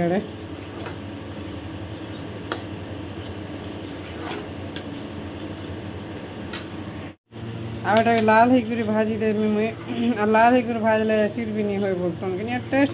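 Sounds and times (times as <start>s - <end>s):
spatula scraping pan: 0.0s - 6.3s, 8.5s - 12.9s.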